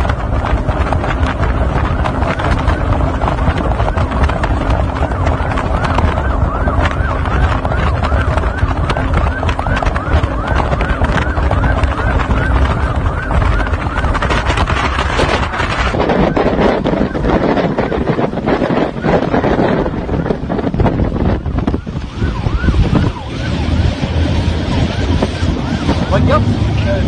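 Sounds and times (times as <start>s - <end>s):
motorboat engine running: 0.0s - 27.0s
wind buffeting microphone: 0.0s - 27.0s.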